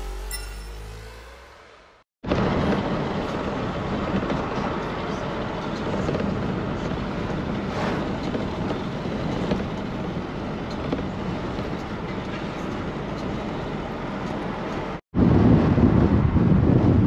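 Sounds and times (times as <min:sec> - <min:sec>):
tyres rumbling on road: 0:01.6 - 0:17.0.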